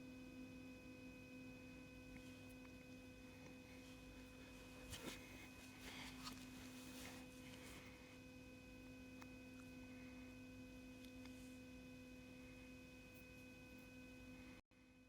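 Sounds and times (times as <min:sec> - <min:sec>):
faint hum of held tones: 0:00.0 - 0:15.0.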